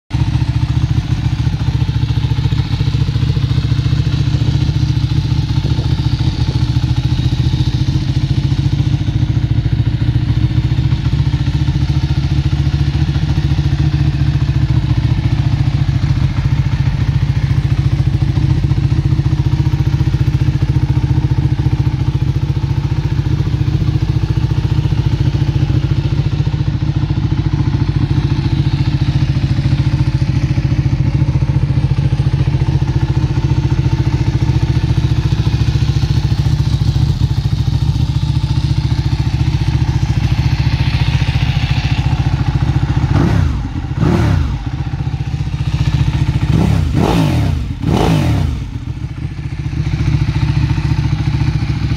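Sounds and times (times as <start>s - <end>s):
motorcycle engine idling: 0.1s - 51.9s.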